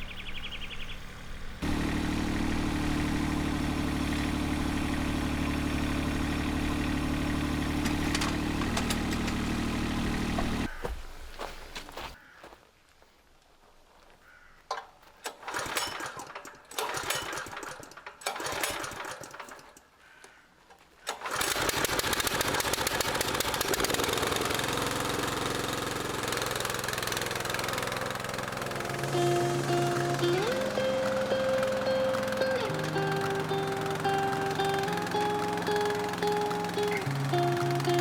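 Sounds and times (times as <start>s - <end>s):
small engine running: 0.0s - 10.8s, 15.3s - 19.7s, 21.1s - 38.0s.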